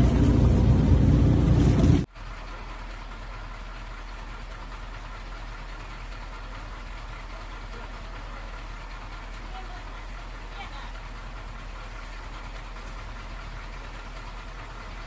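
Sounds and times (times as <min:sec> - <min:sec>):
engine humming: 0:00.0 - 0:15.0
loud low engine rumble: 0:00.0 - 0:15.0.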